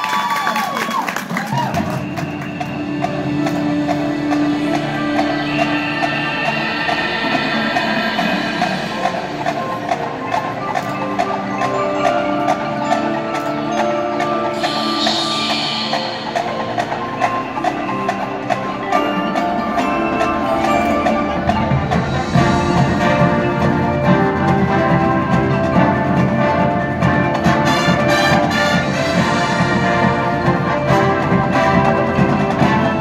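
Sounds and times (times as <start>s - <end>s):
marching band playing: 0.0s - 33.0s
mallet percussion and chimes: 1.4s - 33.0s.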